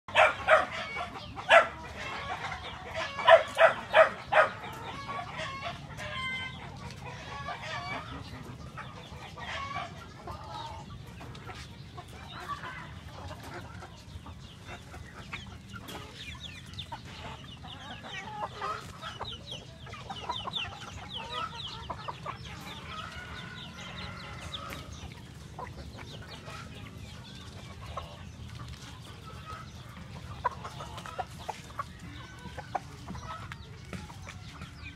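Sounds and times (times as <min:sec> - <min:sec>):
chickens clucking and calling: 0:00.1 - 0:34.9.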